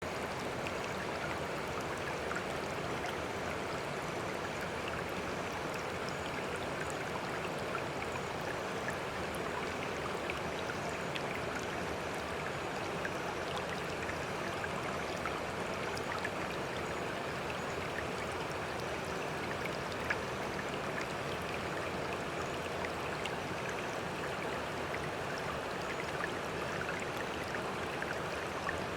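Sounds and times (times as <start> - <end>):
stream water running: 0.0 - 28.9.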